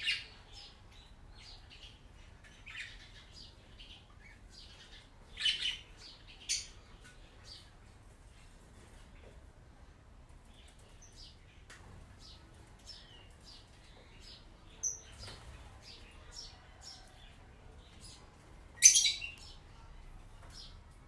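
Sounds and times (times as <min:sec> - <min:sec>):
small birds chirping: 0:00.0 - 0:09.4, 0:10.3 - 0:21.0.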